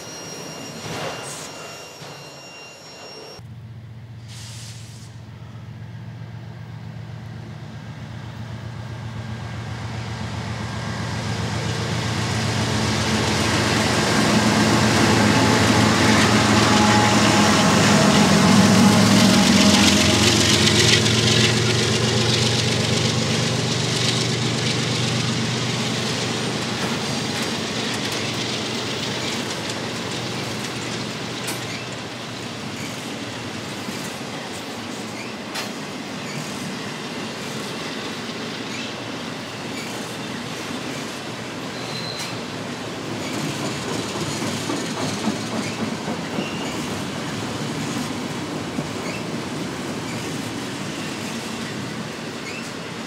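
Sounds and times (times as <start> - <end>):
train wheels rolling on rails: 0.0 - 3.6, 6.6 - 53.0
diesel locomotive engine drone: 0.0 - 53.0.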